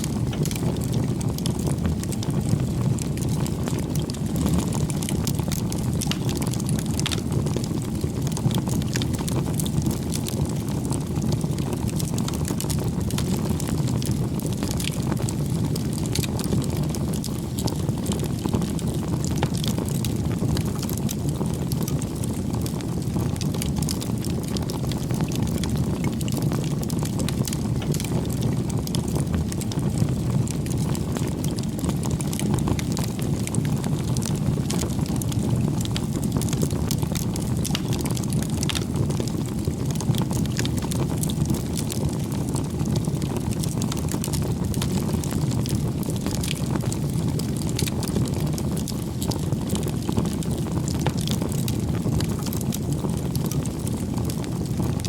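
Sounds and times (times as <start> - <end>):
burning wood crackling and popping: 0.0 - 55.0
flames rushing: 0.0 - 55.0.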